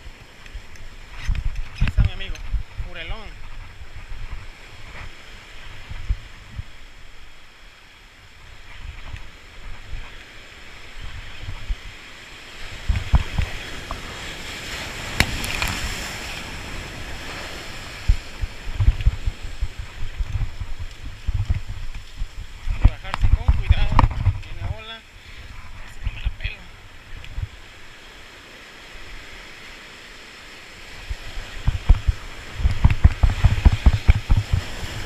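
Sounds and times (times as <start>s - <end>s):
surf breaking over rocks: 0.0s - 35.0s
wind gusts on microphone: 0.0s - 35.0s.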